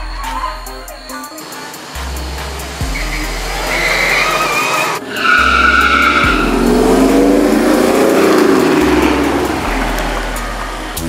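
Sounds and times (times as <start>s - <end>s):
engine revving: 0.0s - 11.0s
tires squealing: 0.0s - 11.0s.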